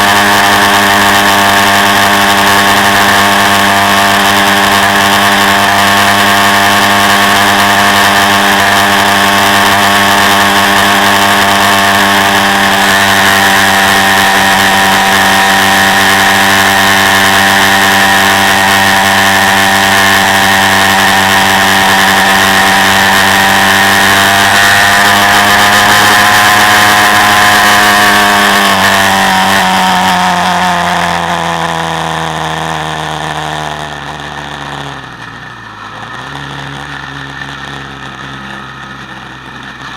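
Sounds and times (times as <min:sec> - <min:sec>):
quad bike engine: 0:00.0 - 0:39.9.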